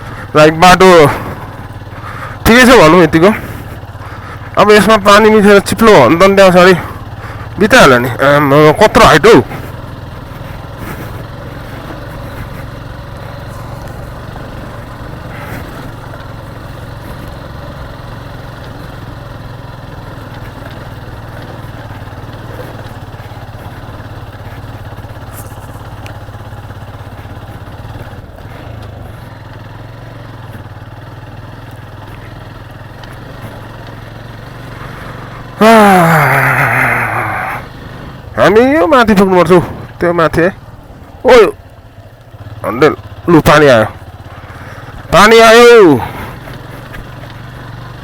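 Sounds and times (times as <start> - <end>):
motorcycle engine running: 0.0 - 48.0
road noise: 0.0 - 48.0.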